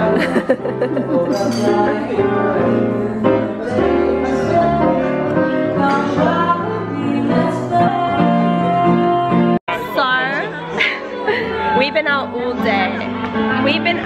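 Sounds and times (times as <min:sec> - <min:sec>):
instrumental accompaniment: 0:00.0 - 0:14.0
woman singing into microphone: 0:01.5 - 0:14.0.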